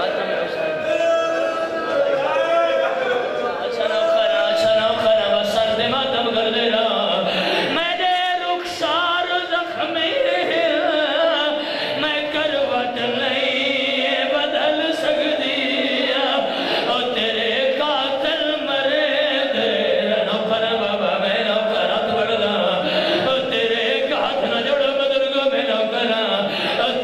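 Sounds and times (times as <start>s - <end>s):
man chanting a lament: 3.6s - 27.0s.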